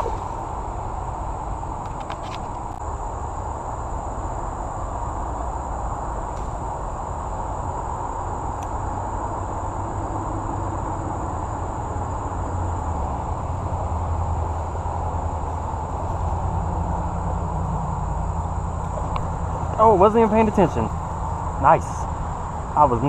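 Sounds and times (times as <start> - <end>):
high insect drone: 0.0 - 23.0
low rumbling noise: 0.0 - 23.0.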